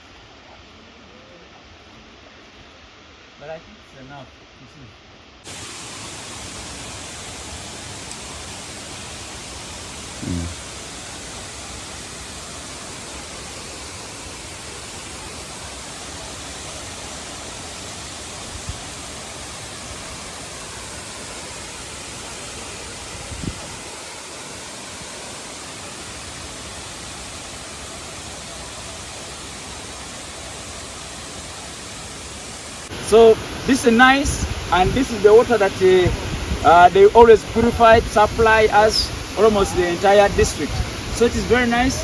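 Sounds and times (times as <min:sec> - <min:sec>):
waterfall roaring: 0:05.4 - 0:42.0.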